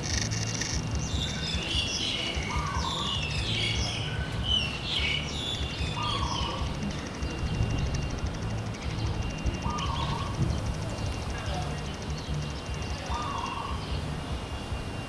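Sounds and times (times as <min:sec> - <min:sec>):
steady low rumble: 0:00.0 - 0:15.0
small birds chirping: 0:00.1 - 0:15.0.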